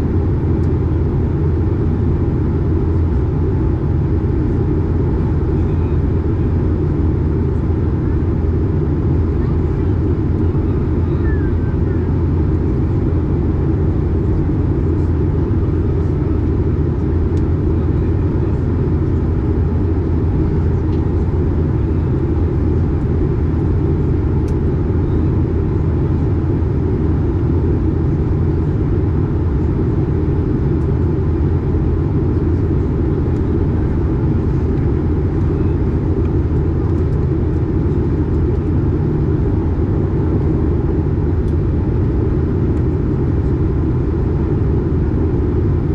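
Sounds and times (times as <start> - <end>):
airplane cabin rumble: 0.0 - 45.9.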